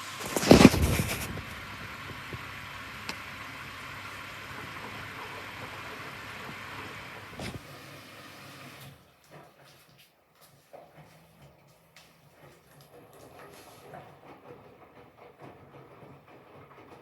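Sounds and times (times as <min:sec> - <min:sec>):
washing machine running: 0:00.0 - 0:09.8, 0:10.9 - 0:17.0.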